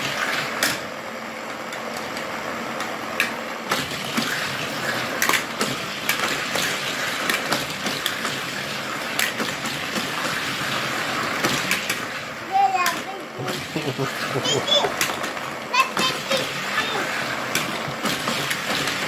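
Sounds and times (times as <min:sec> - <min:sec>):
toy cars clattering on plastic track: 0:00.0 - 0:00.9, 0:02.8 - 0:19.0
toy track booster whirring: 0:00.0 - 0:19.0.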